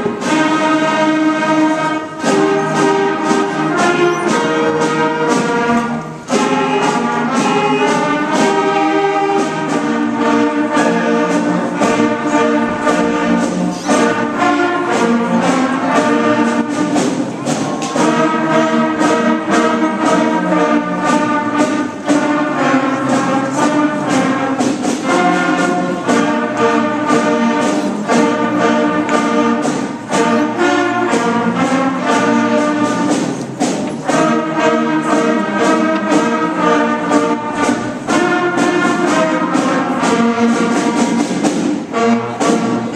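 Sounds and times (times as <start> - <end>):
concert band playing: 0.0 - 42.9.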